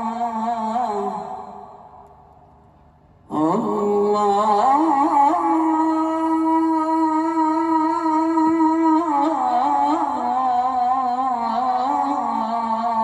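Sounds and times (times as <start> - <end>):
man chanting through loudspeakers: 0.0 - 2.1, 3.3 - 13.0.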